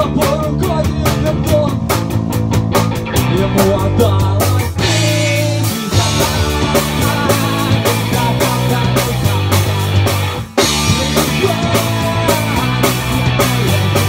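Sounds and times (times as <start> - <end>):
bass: 0.0 - 14.0
drum beats: 0.0 - 14.0
lead guitar with bending notes: 0.0 - 14.0.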